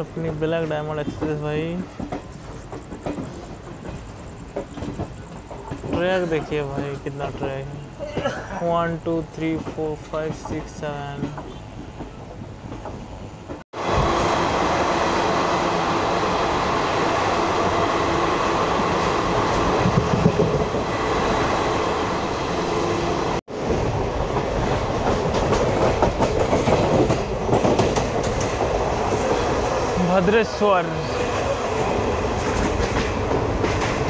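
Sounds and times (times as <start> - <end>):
clickety-clack of train coaches: 0.0 - 34.0
train wheels rumbling on rails: 0.0 - 34.0.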